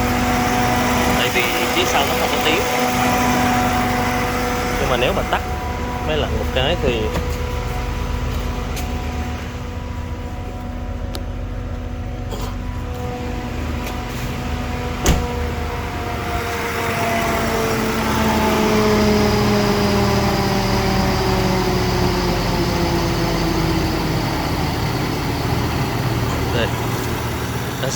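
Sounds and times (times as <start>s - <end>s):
car engine running: 0.0s - 27.9s
mechanical fan whine: 0.0s - 27.9s.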